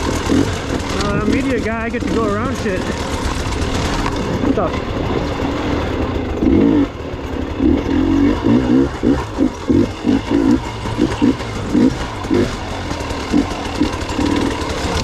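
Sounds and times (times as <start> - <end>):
dirt bike engine throttle blips: 0.0 - 15.0.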